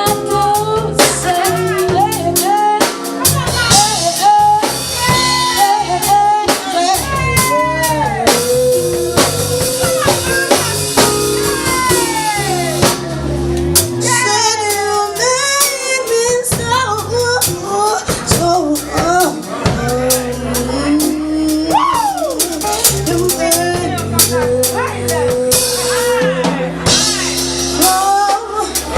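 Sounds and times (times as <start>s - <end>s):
woman singing: 0.0s - 13.0s, 14.0s - 28.9s
bass: 0.0s - 28.9s
drum kit: 0.0s - 28.9s
live band playing: 0.0s - 28.9s.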